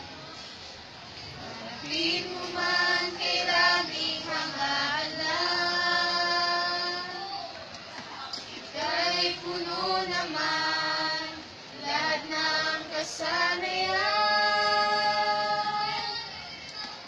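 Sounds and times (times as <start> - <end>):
voices singing a hymn: 1.3 - 7.6, 8.4 - 16.9.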